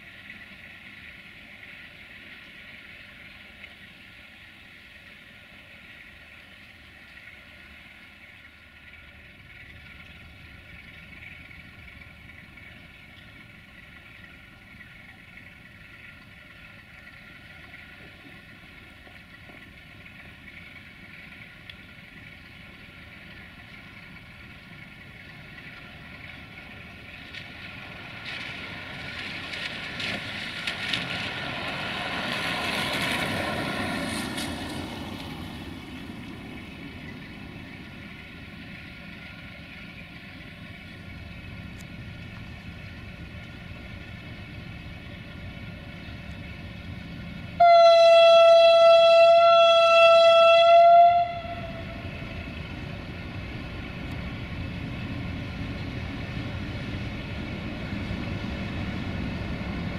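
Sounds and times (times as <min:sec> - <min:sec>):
distant locomotive diesel engines: 0:00.0 - 0:59.9
train clicks and knocks: 0:08.8 - 0:59.9.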